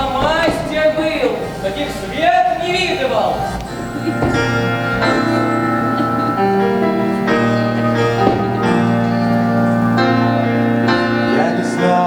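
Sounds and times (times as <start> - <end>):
piano sustained chords: 0.0 - 12.0.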